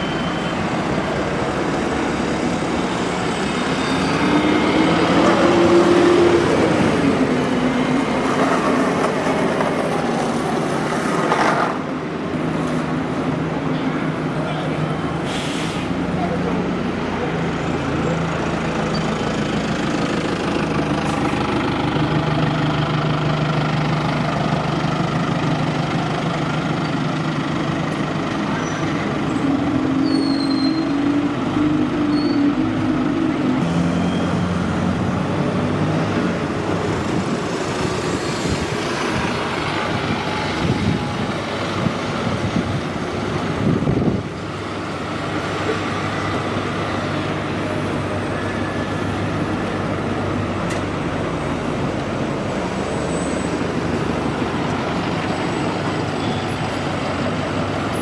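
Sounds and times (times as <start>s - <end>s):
bus pulling away: 0.0s - 58.0s
buses idling: 0.0s - 58.0s.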